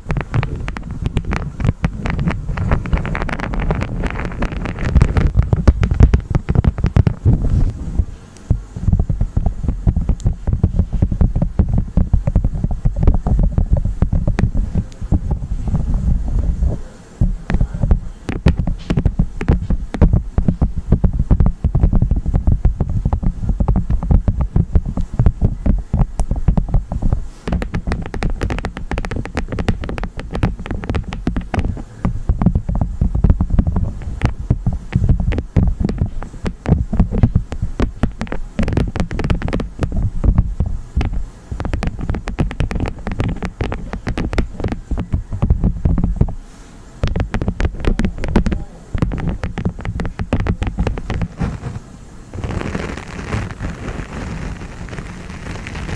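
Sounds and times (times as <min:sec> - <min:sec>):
low heavy thumps: 0:00.0 - 0:55.9
wax crunching and squishing: 0:00.0 - 0:55.9.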